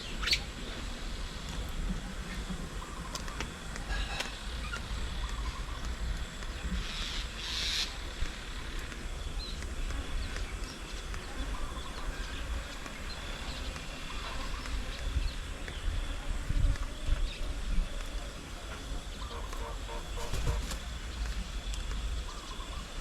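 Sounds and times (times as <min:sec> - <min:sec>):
faint bird calls: 0:00.0 - 0:23.0
steady low rumble: 0:00.0 - 0:23.0.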